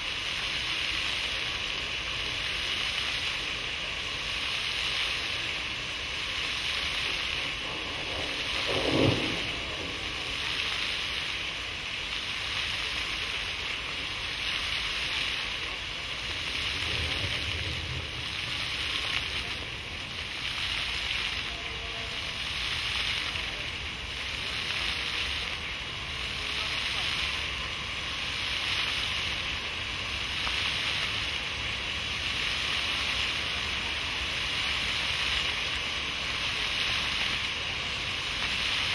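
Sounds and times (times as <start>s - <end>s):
fountain water spraying and splashing: 0.0s - 38.9s.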